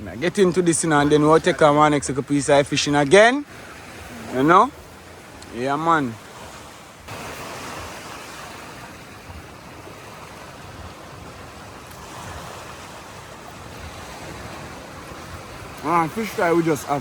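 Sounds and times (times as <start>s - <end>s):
surf washing on a beach: 0.0s - 17.0s.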